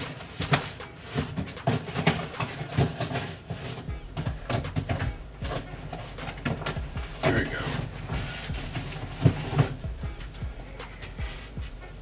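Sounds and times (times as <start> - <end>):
rummaging through shoe boxes: 0.0 - 12.0.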